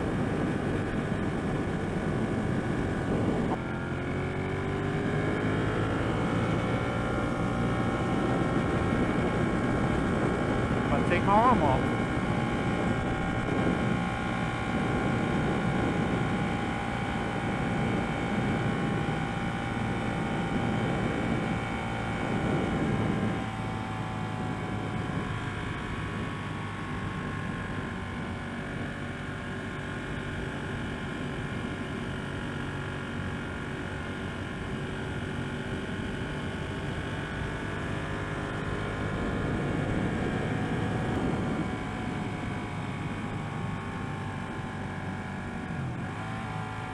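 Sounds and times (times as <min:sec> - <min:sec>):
motorcycle engine riding: 0:00.0 - 0:46.9.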